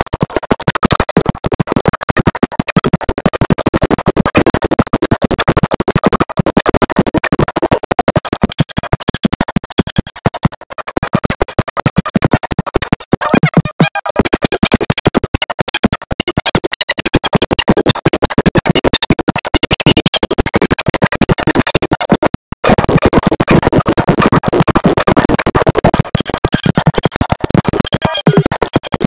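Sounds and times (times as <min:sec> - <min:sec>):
electronic music with choppy beat: 0:00.0 - 0:29.0.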